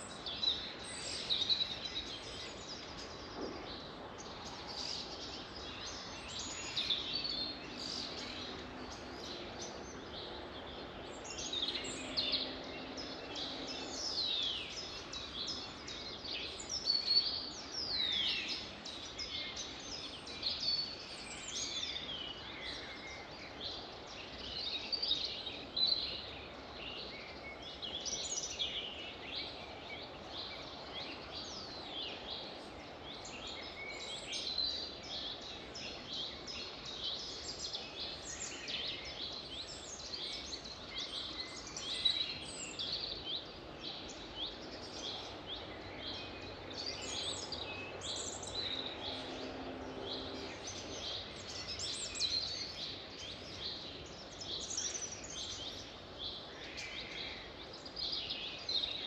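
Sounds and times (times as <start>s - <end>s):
birds singing: 0.0s - 59.0s
low background hiss: 0.0s - 59.0s.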